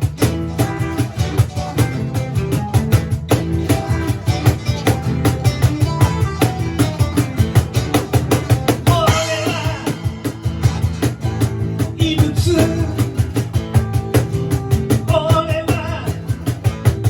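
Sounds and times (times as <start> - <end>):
bass and guitar: 0.0 - 17.0
drum kit beat: 0.0 - 17.0.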